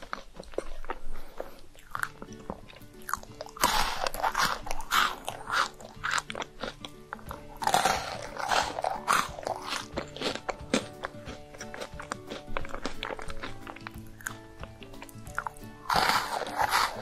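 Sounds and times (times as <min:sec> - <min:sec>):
background music with sustained notes: 0:00.0 - 0:17.0
crunchy balls being chewed: 0:00.0 - 0:17.0.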